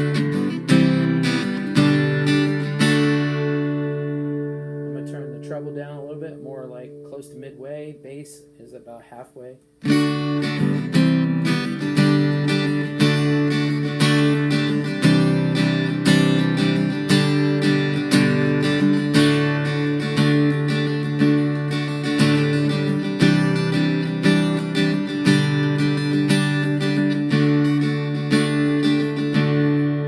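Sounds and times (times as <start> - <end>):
guitar strumming chords: 0.0 - 30.0.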